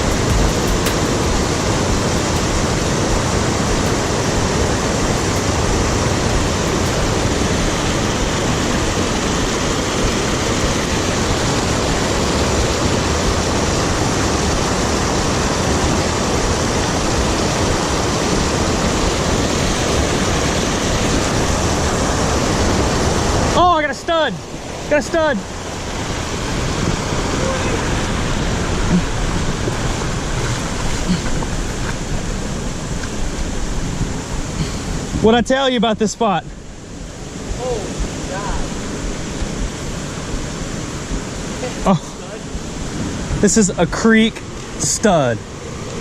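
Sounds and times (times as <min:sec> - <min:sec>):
small waterfall rushing: 0:00.0 - 0:46.0.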